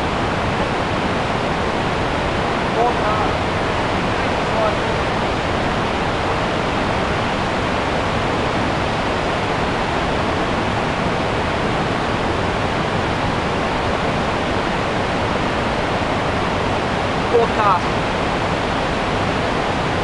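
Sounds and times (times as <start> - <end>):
river rapids rushing over rocks: 0.0 - 20.0.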